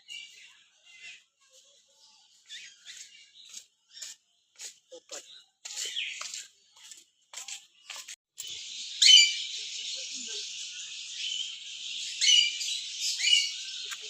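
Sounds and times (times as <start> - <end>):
birds chattering: 0.0 - 14.0.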